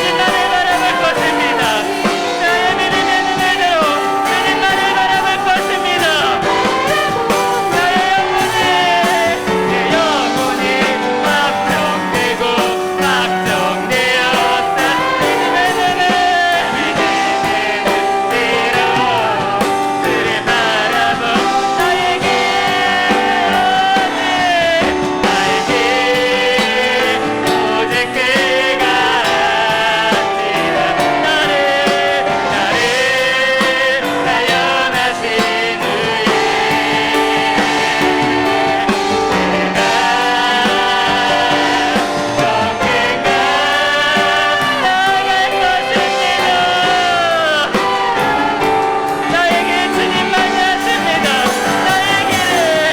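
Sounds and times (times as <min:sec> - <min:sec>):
drums: 0:00.0 - 0:52.9
people singing: 0:00.0 - 0:52.9
piano: 0:00.0 - 0:52.9.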